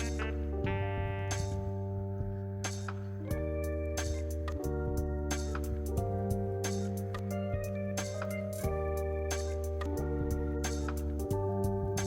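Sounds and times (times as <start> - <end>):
music of held chords: 0.0 - 12.0.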